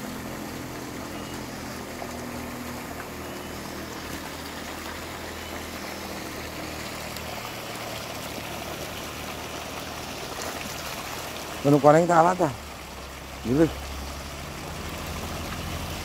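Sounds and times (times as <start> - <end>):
water rushing and trickling: 0.0 - 16.0.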